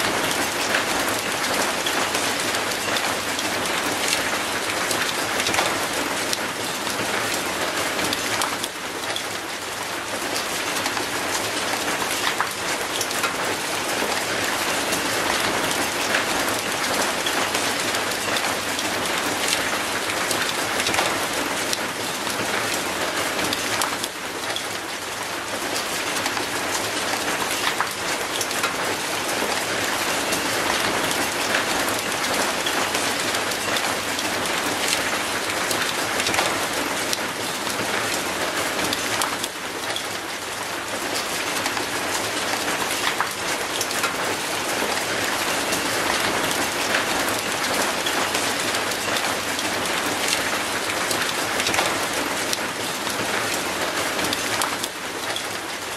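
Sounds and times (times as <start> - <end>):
rain on concrete and metal gate: 0.0 - 55.9
sharp raindrop splashes: 0.0 - 55.9.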